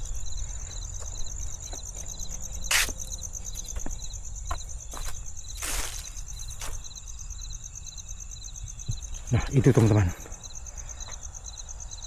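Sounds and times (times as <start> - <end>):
cricket chirping: 0.0 - 12.0
crickets trilling: 0.0 - 12.0.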